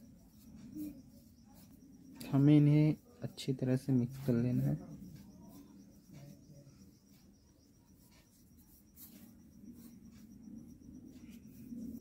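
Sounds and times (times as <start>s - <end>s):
hand rubbing flour in steel bowl: 0.0s - 12.0s.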